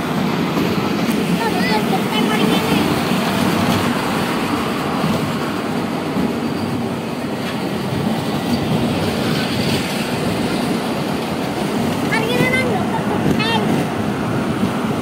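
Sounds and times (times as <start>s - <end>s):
train wheels rattling on rails: 0.0s - 15.0s.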